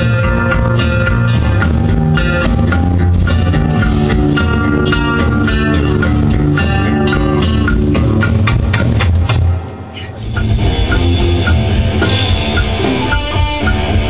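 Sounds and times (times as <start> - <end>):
electric guitar rock riff: 0.0 - 14.0.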